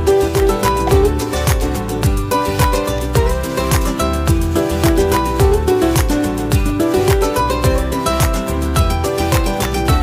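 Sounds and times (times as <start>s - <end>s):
plucked notes: 0.0s - 10.0s
kick drum beat: 0.4s - 10.0s.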